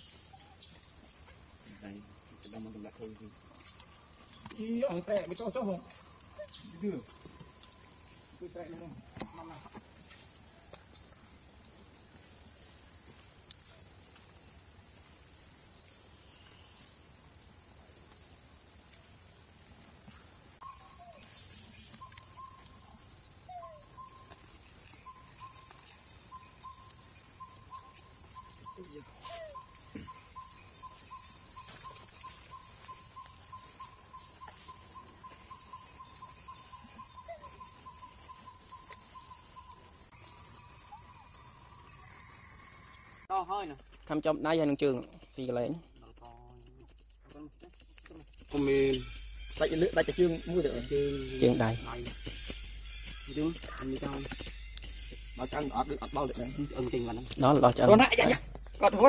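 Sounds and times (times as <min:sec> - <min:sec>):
high-pitched insect drone: 0:00.0 - 0:45.0, 0:45.6 - 0:59.0.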